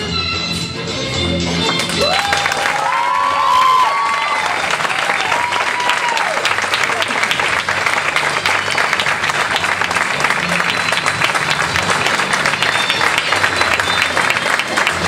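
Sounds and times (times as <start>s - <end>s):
music playing: 0.0s - 15.0s
audience applauding: 1.6s - 15.0s.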